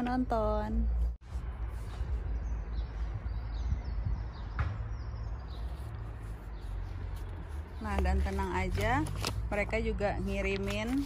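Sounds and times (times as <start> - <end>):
birds chirping: 1.8 - 11.0.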